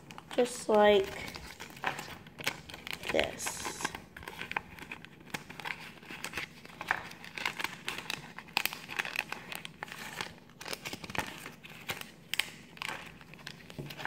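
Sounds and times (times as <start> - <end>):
paper and plastic packaging crinkling: 0.0 - 14.0.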